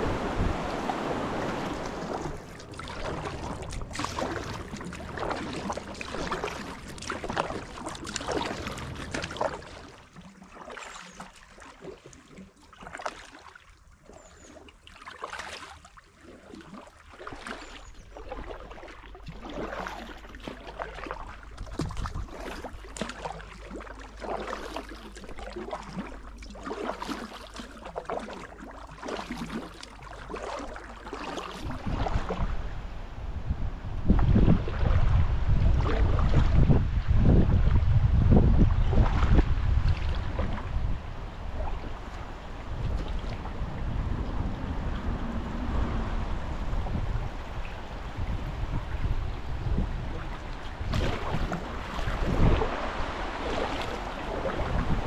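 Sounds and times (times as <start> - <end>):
river water splashing: 0.0 - 33.1, 34.0 - 55.0.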